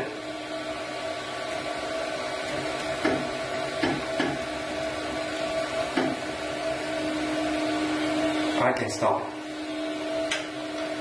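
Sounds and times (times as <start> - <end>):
stepper motor whine: 0.0 - 11.0.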